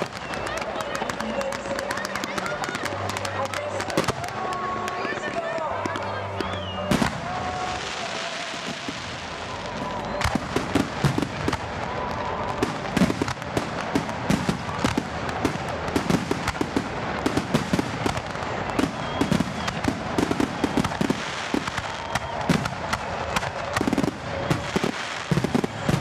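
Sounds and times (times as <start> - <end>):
background noise: 0.0 - 26.0
fireworks bangs and crackles: 0.0 - 26.0.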